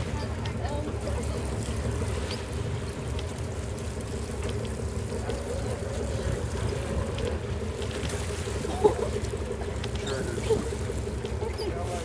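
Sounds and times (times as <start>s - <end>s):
low continuous rumble: 0.0s - 12.0s.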